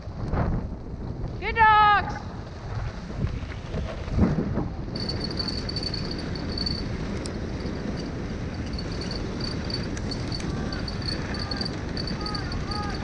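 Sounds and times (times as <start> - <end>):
rush of wind and snow: 0.0 - 13.0.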